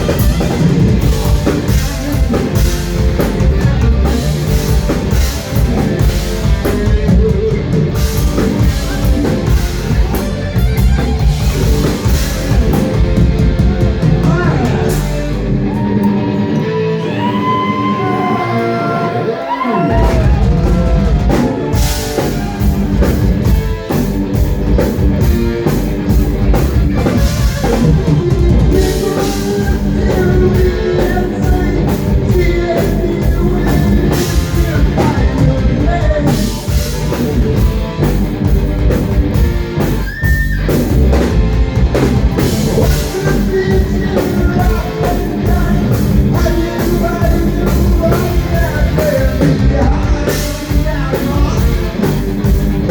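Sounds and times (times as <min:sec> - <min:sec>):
drum kit: 0:00.0 - 0:18.0, 0:19.5 - 0:52.9
person singing: 0:00.0 - 0:23.6, 0:27.0 - 0:38.1, 0:42.4 - 0:52.6
bass guitar: 0:00.0 - 0:52.9
distorted electric guitar: 0:00.0 - 0:52.9.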